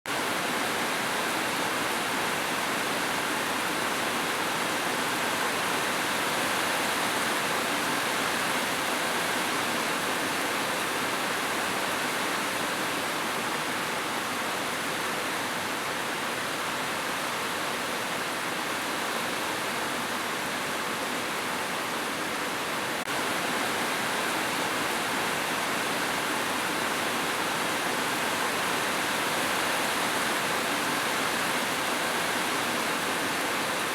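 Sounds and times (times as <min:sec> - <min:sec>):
rushing water: 0:00.1 - 0:33.9.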